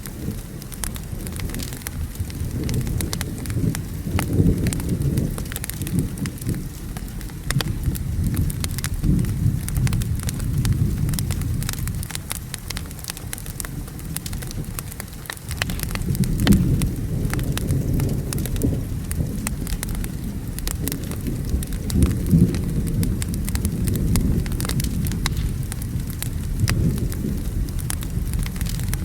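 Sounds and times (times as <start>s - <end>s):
rolling thunder: 0.0s - 29.0s
steady rain: 0.0s - 29.0s
wood fire crackling: 0.0s - 29.0s.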